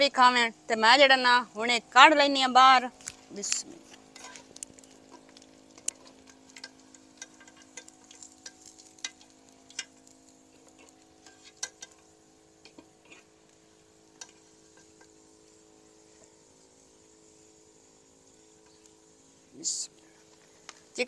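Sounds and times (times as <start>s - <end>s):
faint frying sizzle: 0.0s - 21.0s.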